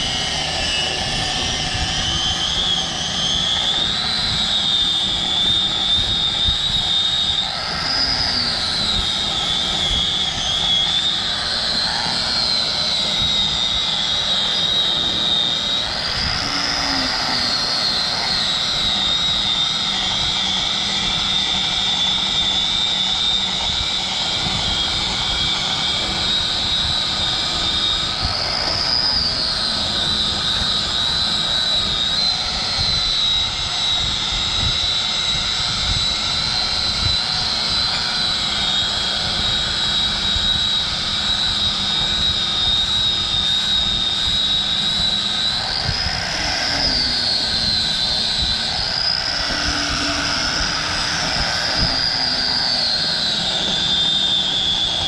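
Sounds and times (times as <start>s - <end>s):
angle grinder cutting rubber: 0.0s - 55.0s.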